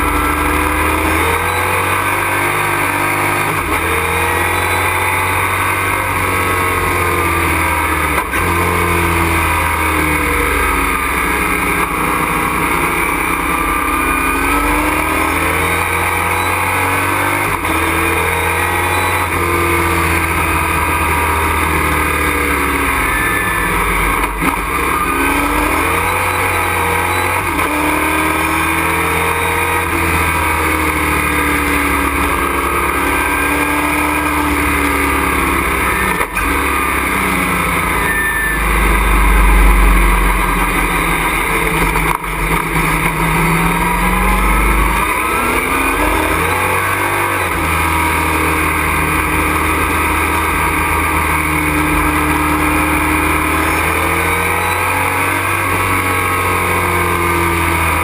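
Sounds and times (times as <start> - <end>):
race truck engine revving: 0.0 - 58.0.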